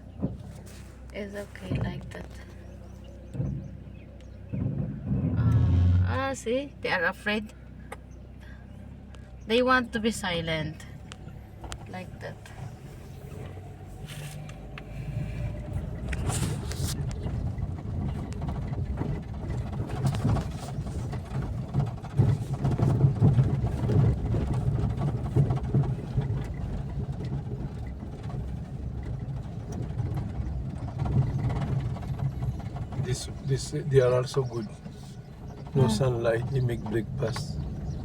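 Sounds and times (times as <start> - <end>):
car engine and tyres rumbling: 0.0 - 38.0.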